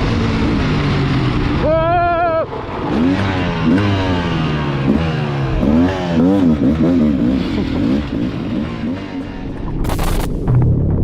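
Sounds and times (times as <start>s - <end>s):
motorcycle engines revving: 0.0s - 10.2s.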